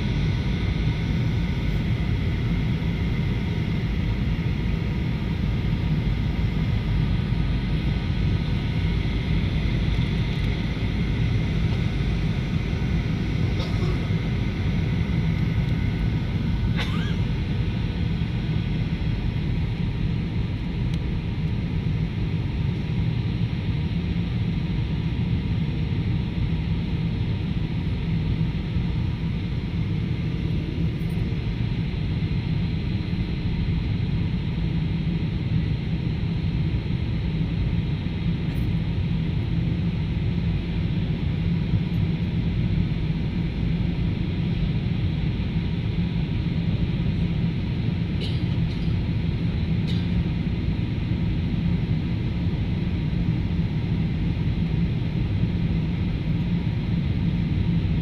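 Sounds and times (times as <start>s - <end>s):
airliner cabin engine roar: 0.0s - 58.0s
faint steady hum: 0.0s - 58.0s.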